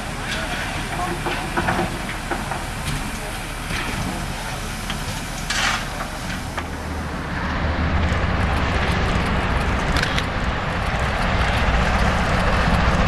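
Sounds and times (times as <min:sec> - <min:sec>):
steam train rumble and exhaust: 0:00.0 - 0:13.0.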